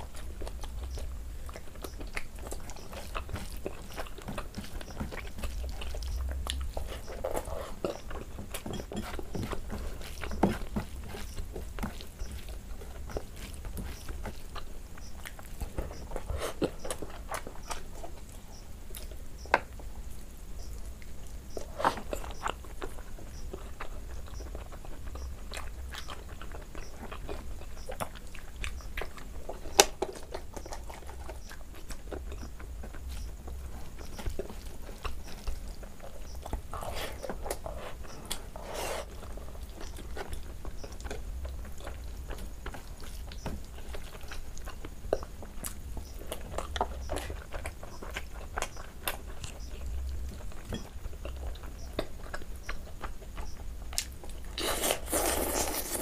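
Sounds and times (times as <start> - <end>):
close chewing with mouth clicks: 0.0 - 56.0.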